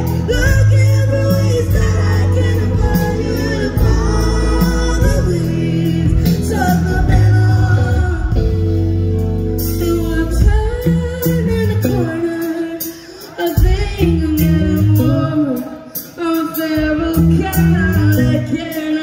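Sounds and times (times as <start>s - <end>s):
woman singing: 0.0s - 8.6s, 9.6s - 19.0s
heavy bass: 0.0s - 12.4s, 13.6s - 15.6s, 16.6s - 18.8s
live band playing: 0.0s - 19.0s.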